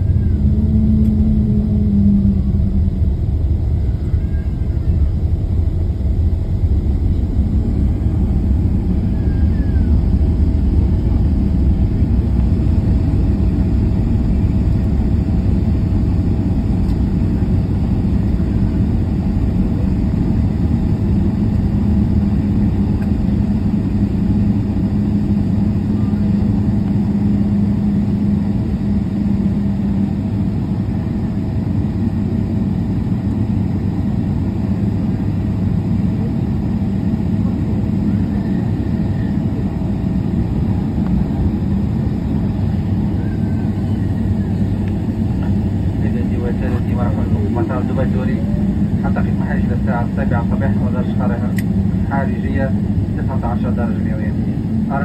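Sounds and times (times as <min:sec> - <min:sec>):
jet engines and wheels rumbling: 0:00.0 - 0:55.0.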